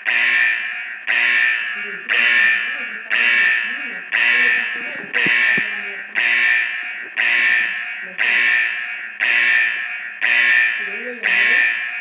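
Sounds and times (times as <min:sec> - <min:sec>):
fire alarm tone: 0:00.0 - 0:12.0.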